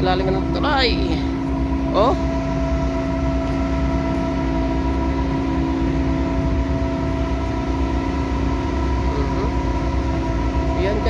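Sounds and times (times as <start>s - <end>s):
ship engines droning: 0.0s - 11.0s.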